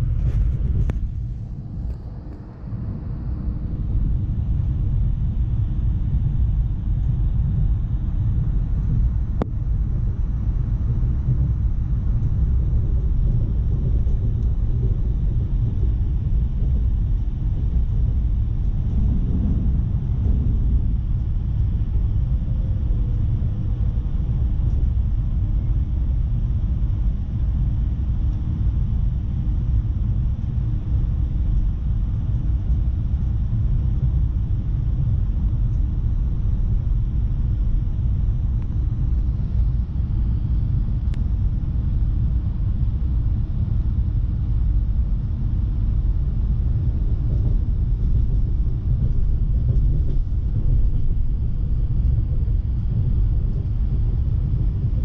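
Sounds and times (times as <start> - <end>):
faint steady hum: 0.0 - 55.0
train low rumble: 0.0 - 55.0.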